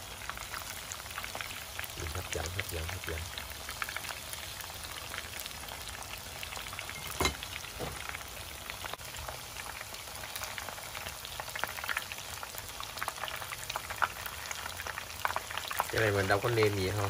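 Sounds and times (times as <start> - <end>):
fritters frying in hot oil: 0.0 - 17.0.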